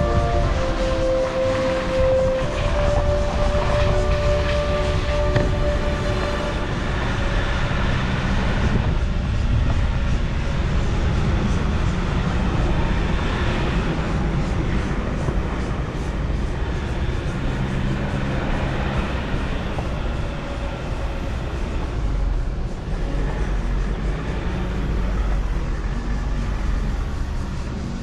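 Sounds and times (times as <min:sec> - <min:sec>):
vehicle rumble with road noise: 0:00.0 - 0:28.0
wind noise: 0:00.0 - 0:28.0.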